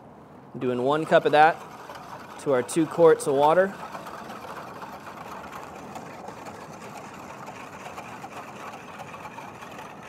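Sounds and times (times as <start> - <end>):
whisk swishing water: 0.5 - 10.0.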